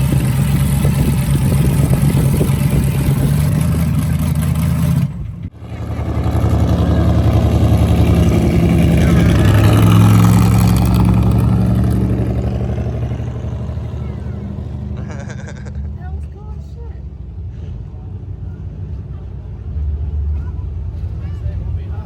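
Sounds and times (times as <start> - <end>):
vehicle engine at low revs: 0.0 - 22.0.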